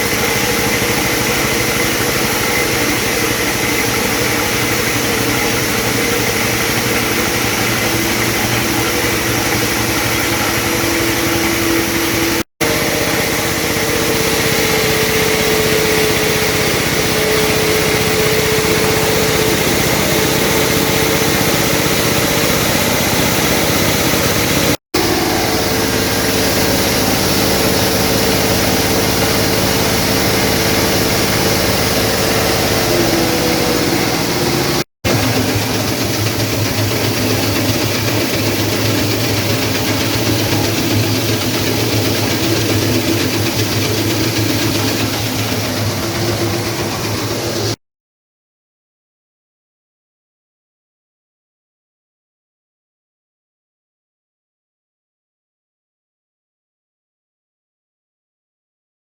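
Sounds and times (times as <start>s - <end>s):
milling machine running: 0.0s - 47.8s.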